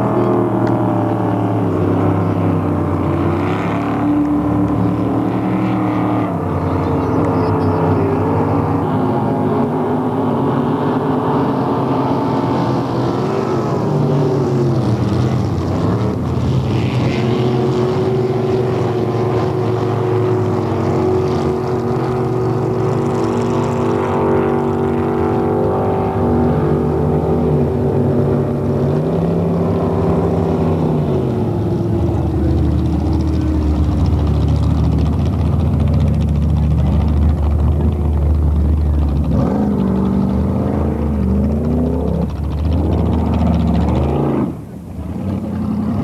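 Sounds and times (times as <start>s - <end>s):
racing motorboat engines: 0.0s - 46.0s.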